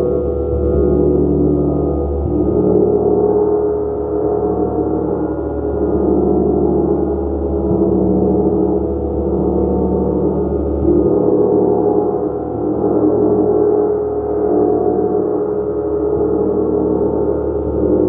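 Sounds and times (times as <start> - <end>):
gong ringing: 0.0 - 18.0.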